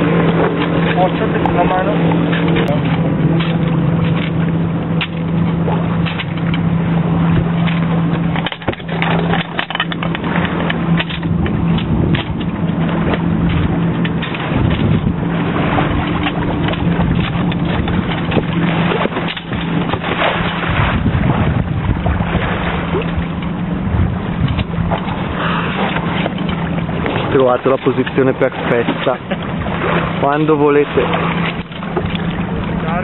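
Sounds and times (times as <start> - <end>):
outboard motor humming: 0.0 - 33.0
wind noise on microphone: 2.1 - 30.4.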